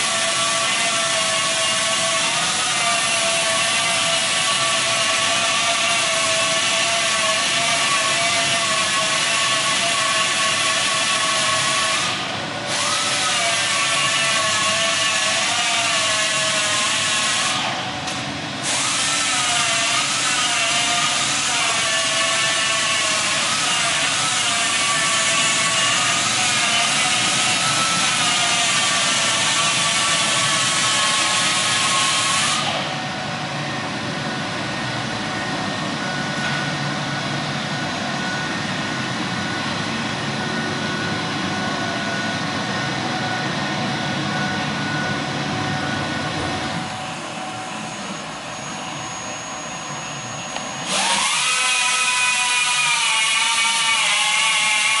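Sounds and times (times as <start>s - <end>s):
furnace mechanical whir: 0.0s - 55.0s.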